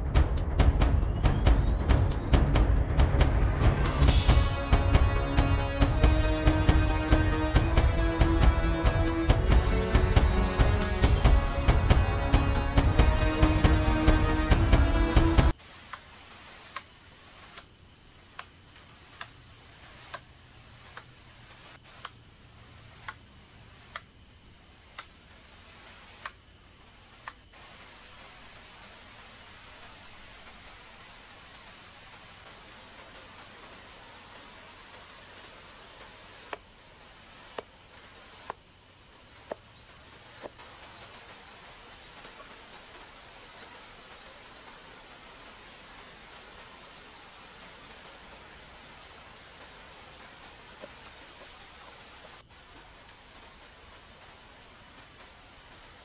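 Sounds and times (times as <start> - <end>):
pulsing insect chorus: 0.0 - 56.0.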